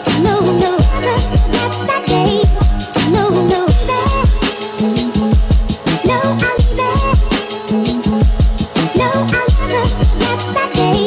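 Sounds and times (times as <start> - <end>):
background music with kick drums: 0.0 - 11.0.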